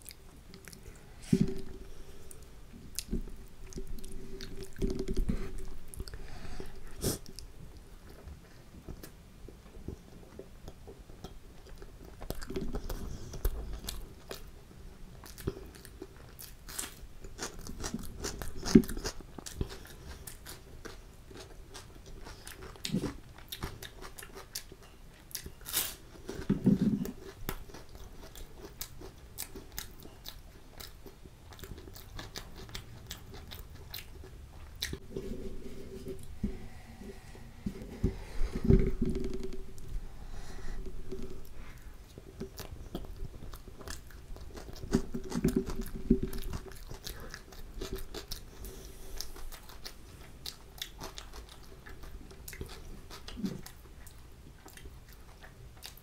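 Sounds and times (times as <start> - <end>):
person chewing and crunching food: 0.0 - 56.0.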